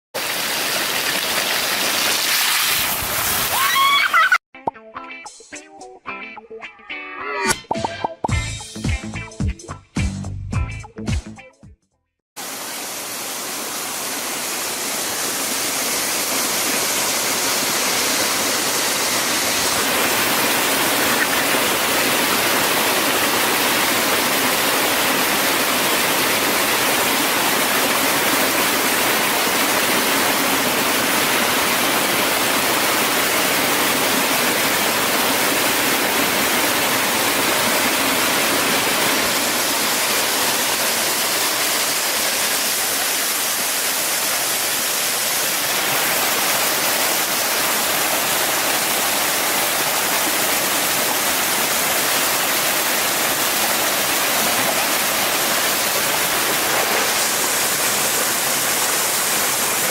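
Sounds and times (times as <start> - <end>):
running water rushing: 0.2 - 4.4, 12.4 - 59.9.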